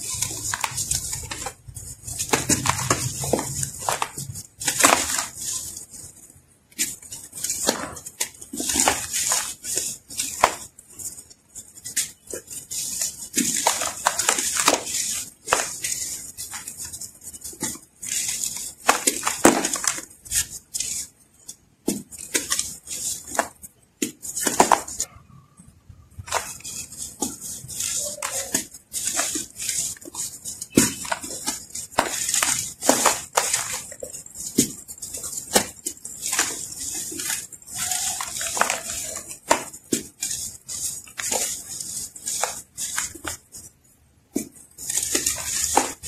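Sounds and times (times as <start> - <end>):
hands crunching dry sand chunks: 0.0 - 5.9, 6.8 - 11.1, 11.9 - 21.0, 26.2 - 43.5, 44.4 - 46.0
gritty sand sifting: 0.0 - 21.2, 26.1 - 43.8, 44.4 - 46.0.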